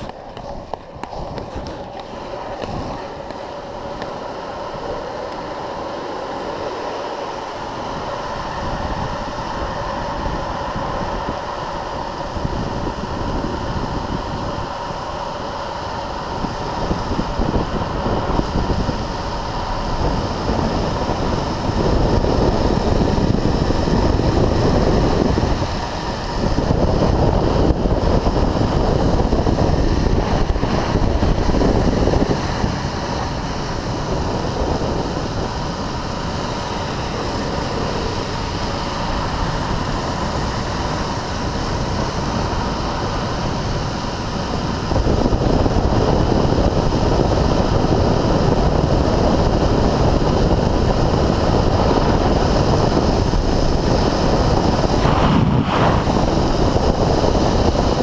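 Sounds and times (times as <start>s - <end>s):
longboard wheels rolling on asphalt: 0.0s - 58.0s
wind rushing over microphone: 0.0s - 58.0s.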